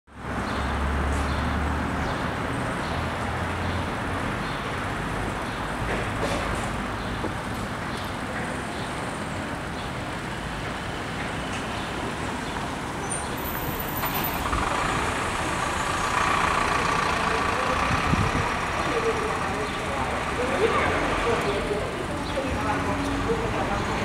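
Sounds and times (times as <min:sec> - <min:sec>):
passing road vehicles: 0:00.1 - 0:24.0.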